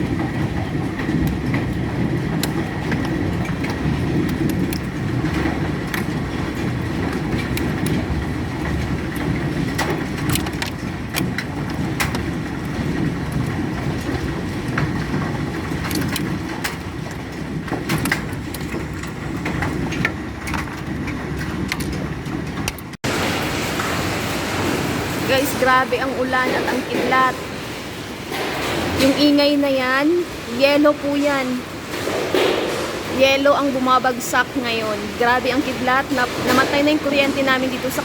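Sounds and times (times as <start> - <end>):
hailstones pelting down: 0.0 - 38.0.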